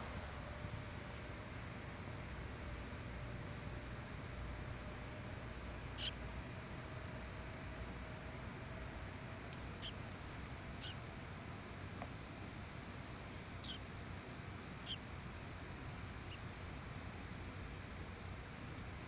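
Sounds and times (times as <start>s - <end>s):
low background hiss: 0.0s - 19.0s.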